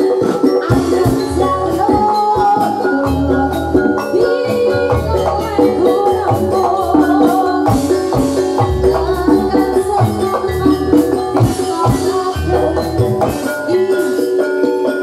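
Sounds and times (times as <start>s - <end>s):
drum beats: 0.0s - 15.0s
metallophones playing melody: 0.0s - 15.0s.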